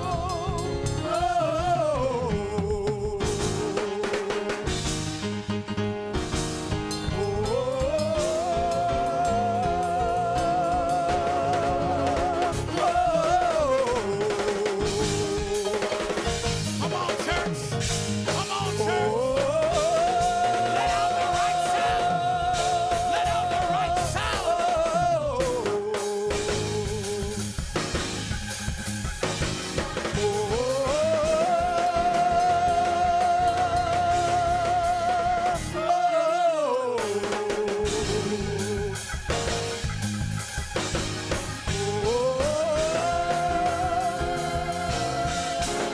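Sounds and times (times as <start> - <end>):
drum kit keeping time: 0.0 - 45.9.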